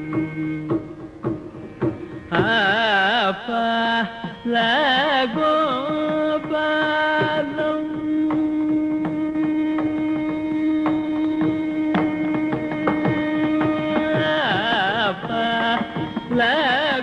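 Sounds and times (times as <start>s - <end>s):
person singing ornamented phrases: 0.0s - 0.9s, 2.3s - 17.0s
hand drum strokes: 0.0s - 2.7s, 5.3s - 17.0s.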